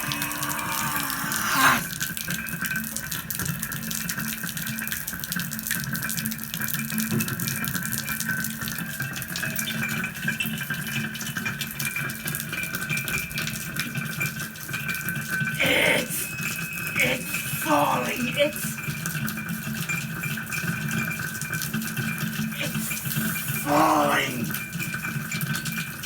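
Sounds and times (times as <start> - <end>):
water running from a tap: 0.0 - 15.6, 16.2 - 26.0.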